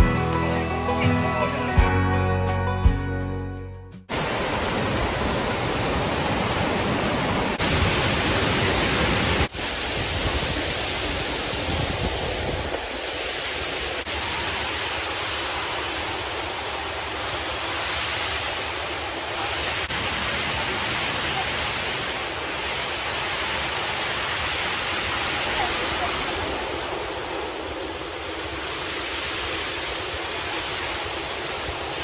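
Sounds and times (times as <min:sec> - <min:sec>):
waterfall rushing: 0:04.1 - 0:32.0.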